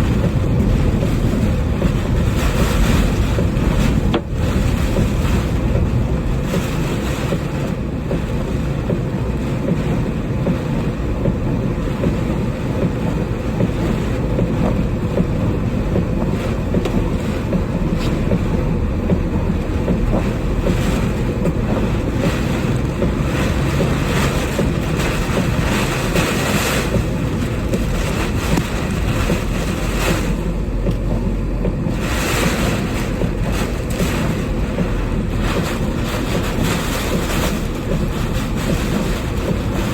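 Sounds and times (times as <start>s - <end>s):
strong wind buffeting microphone: 0.0s - 9.5s, 10.9s - 39.9s.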